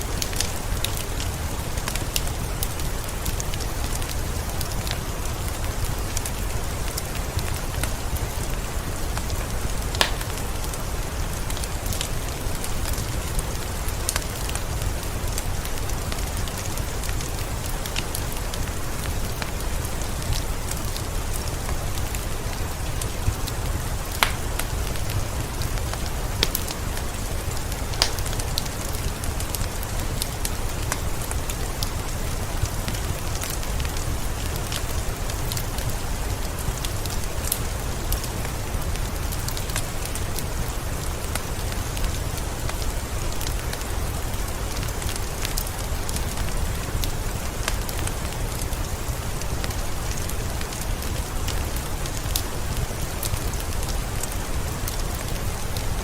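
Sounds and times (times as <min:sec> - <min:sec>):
steady rain: 0:00.0 - 0:56.0
wood fire crackling: 0:00.0 - 0:56.0.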